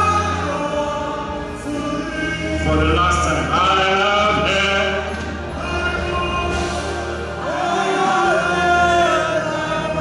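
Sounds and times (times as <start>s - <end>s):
congregation singing a hymn: 0.0s - 10.0s.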